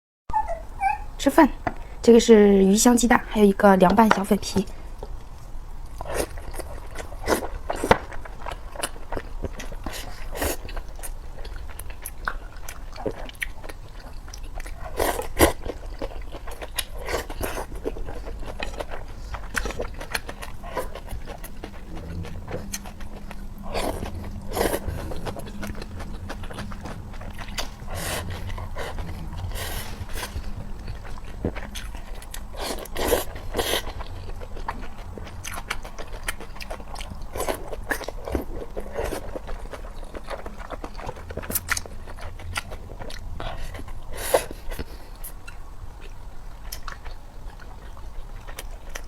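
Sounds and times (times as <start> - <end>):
low steady hum: 0.3 - 49.0
person chewing food: 4.8 - 49.0.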